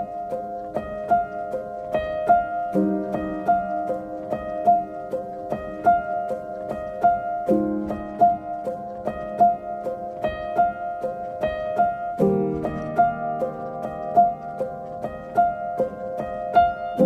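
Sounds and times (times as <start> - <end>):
piano-like repeating notes: 0.0 - 17.0.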